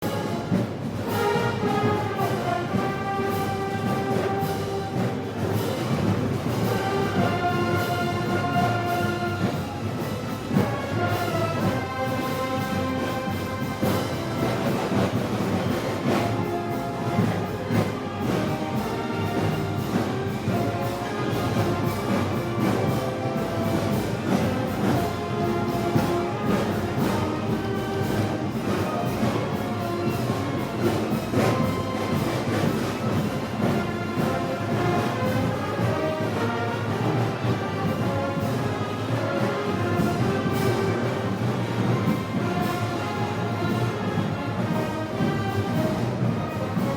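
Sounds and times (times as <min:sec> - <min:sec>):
brass band playing a march: 0:00.0 - 0:46.9
steady drum beat: 0:00.0 - 0:46.9
wind instruments holding notes: 0:00.0 - 0:46.9.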